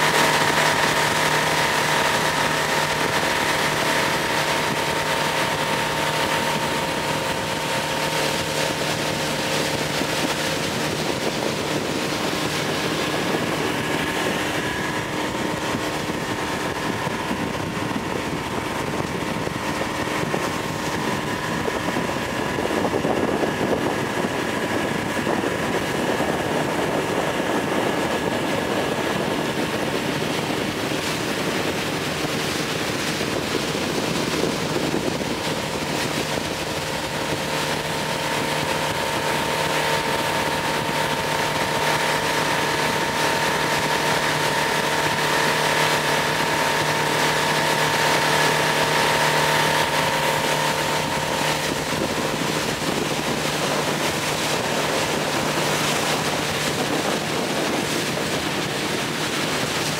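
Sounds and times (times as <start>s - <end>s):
outboard motor running: 0.0s - 59.9s
water noise: 0.0s - 59.9s
wind: 0.0s - 59.9s.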